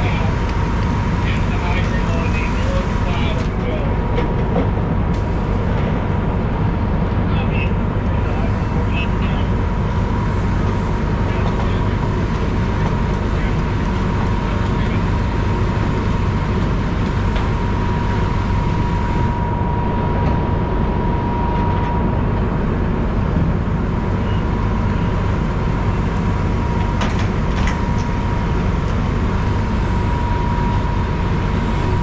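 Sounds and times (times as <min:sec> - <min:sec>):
fire truck engine rumbling: 0:00.0 - 0:32.0
high whine: 0:00.0 - 0:32.0.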